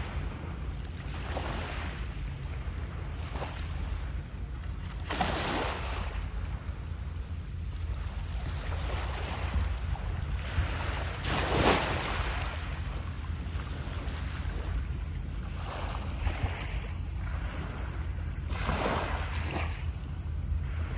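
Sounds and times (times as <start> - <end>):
small waves washing ashore: 0.0 - 20.9
wind rumble on microphone: 0.0 - 20.9.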